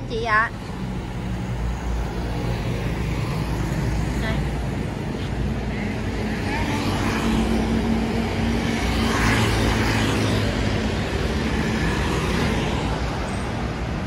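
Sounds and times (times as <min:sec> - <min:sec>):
road traffic passing: 0:00.0 - 0:14.0
loud vehicle passing: 0:00.5 - 0:14.0.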